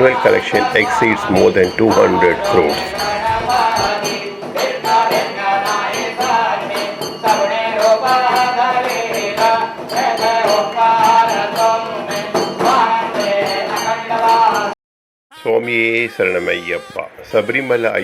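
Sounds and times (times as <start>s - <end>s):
jingling percussion: 0.0s - 14.7s
devotional chant singing: 0.0s - 14.8s.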